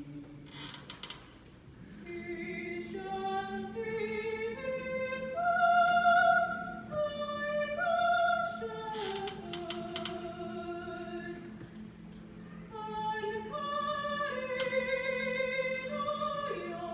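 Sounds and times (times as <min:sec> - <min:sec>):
high singing voice: 0:02.0 - 0:11.7, 0:12.7 - 0:16.9.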